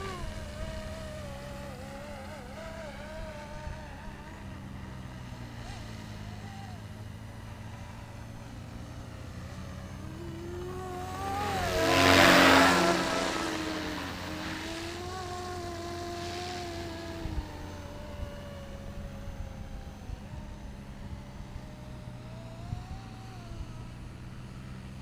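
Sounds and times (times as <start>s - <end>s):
model helicopter rotor whine: 0.0s - 25.0s.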